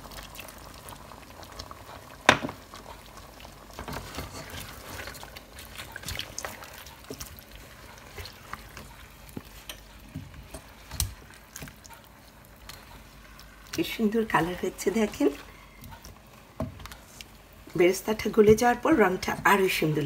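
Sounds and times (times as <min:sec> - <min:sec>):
spatula stirring food in a pot: 0:00.0 - 0:20.0.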